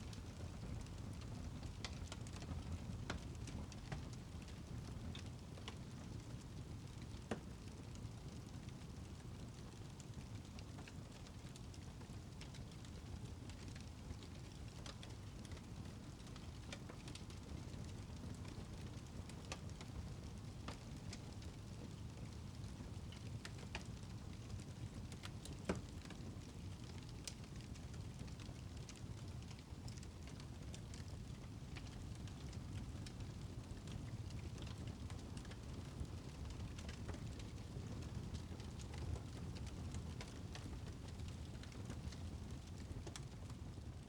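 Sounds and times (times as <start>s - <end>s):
wood fire burning: 0.0s - 44.0s.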